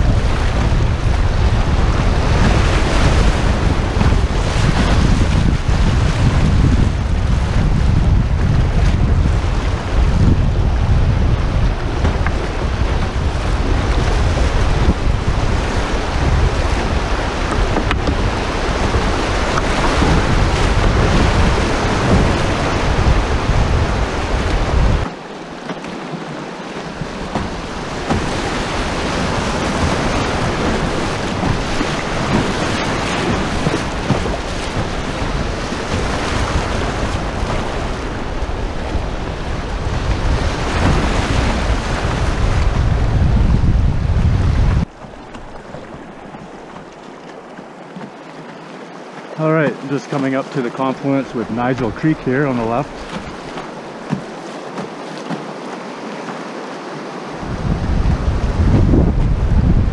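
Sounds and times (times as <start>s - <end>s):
wind rumble on microphone: 0.0s - 25.2s, 26.2s - 47.4s, 57.3s - 59.9s
rushing whitewater: 0.0s - 59.9s.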